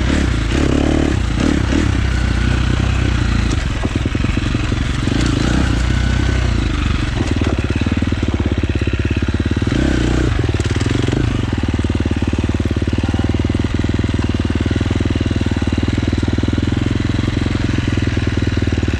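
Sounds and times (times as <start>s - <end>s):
dirt bike engine running: 0.0s - 18.9s.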